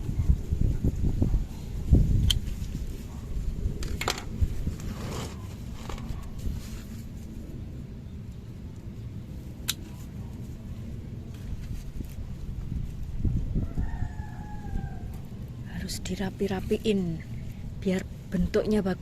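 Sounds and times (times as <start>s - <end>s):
wind buffeting microphone: 0.0s - 7.6s, 9.9s - 19.0s.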